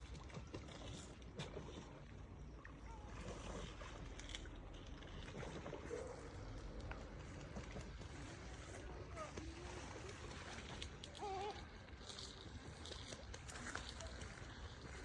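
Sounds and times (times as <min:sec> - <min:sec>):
water lapping: 0:00.0 - 0:15.0.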